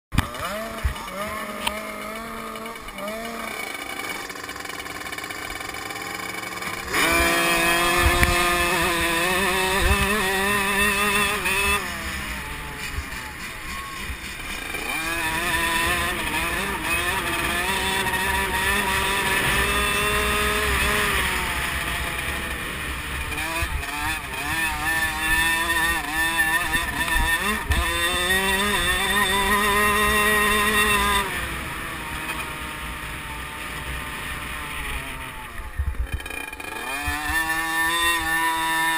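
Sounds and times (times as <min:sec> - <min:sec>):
motocross bikes racing: 0:00.1 - 0:38.9.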